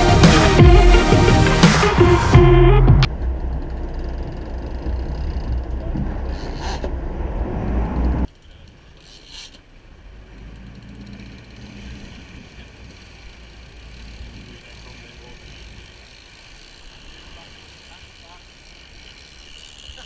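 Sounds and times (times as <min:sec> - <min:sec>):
boat engine rumbling: 0:00.0 - 0:20.0
wind: 0:01.3 - 0:20.0.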